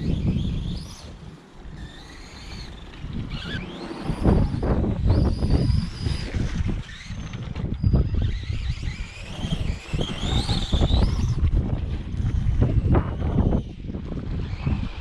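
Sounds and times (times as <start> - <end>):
electric motor whining: 0.0 - 15.0
wind buffeting microphone: 0.0 - 15.0.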